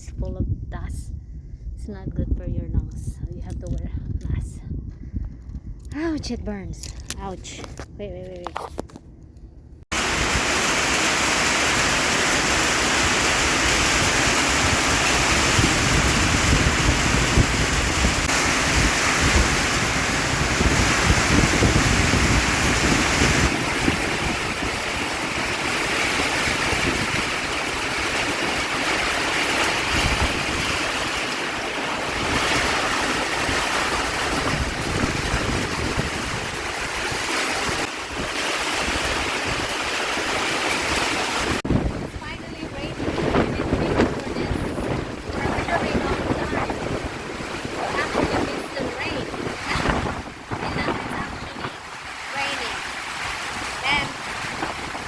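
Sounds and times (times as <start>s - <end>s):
wind rumbling on microphone: 0.0s - 55.0s
heavy rain falling: 9.9s - 55.0s.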